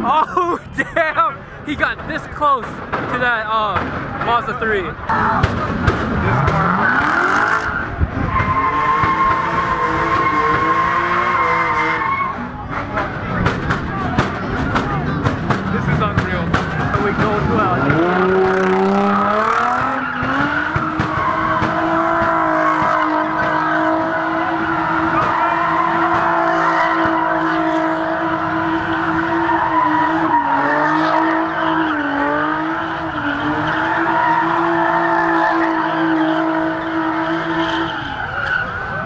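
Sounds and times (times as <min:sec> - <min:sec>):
tyres spinning and squealing: 0:01.8 - 0:39.0
car engine at high revs: 0:05.0 - 0:39.0.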